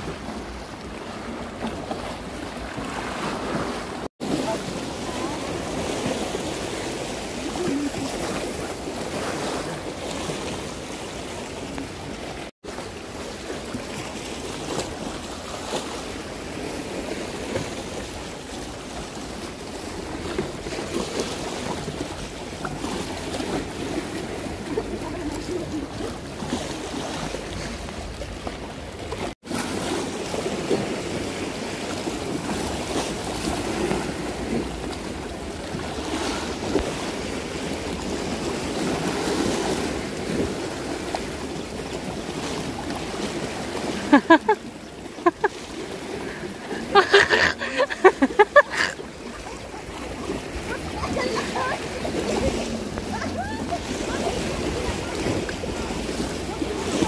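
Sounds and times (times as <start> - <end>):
water lapping in shallows: 0.0 - 57.0.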